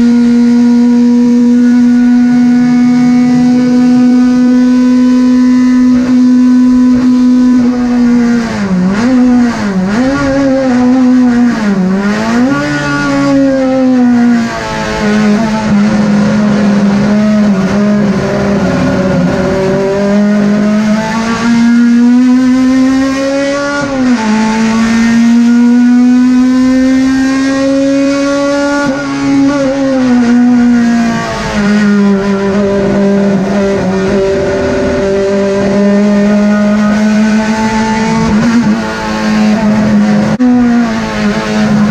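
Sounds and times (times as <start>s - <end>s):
racing car engine at high revs: 0.0s - 41.9s.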